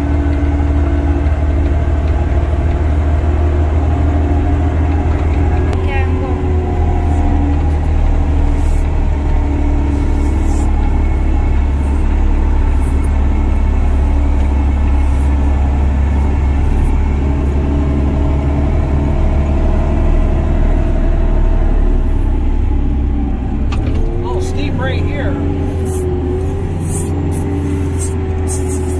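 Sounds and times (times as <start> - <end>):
diesel truck engine drone: 0.0 - 28.9.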